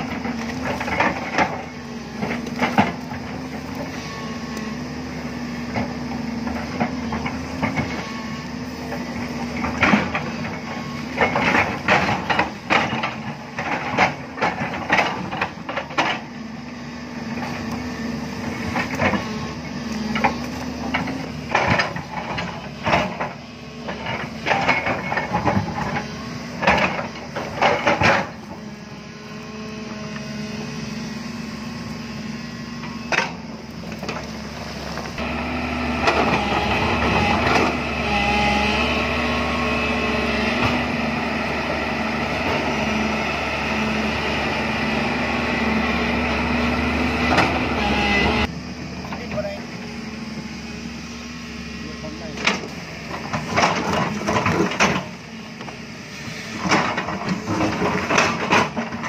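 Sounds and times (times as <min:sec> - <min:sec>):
excavator diesel engine running: 0:00.0 - 0:59.0
hydraulics working: 0:00.0 - 0:59.0.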